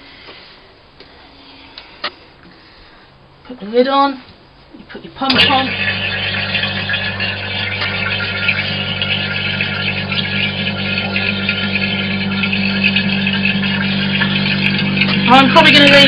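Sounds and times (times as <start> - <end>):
vacuum pump hum and hiss: 0.0 - 16.0.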